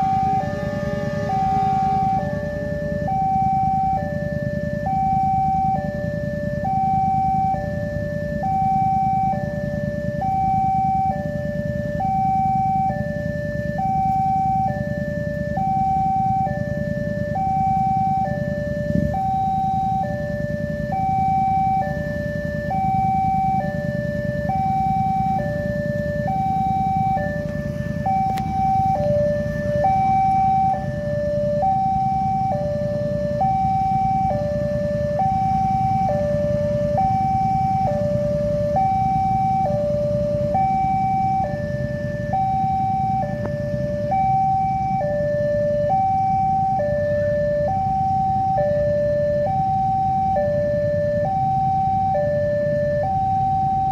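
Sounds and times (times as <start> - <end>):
level crossing two-tone alarm: 0.0 - 53.9
low rumble of motorcycle traffic: 0.0 - 53.9.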